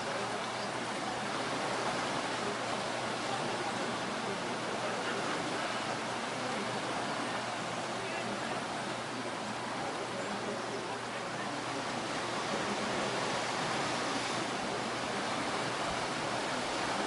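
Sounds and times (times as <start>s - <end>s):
distant surf breaking: 0.0s - 17.0s.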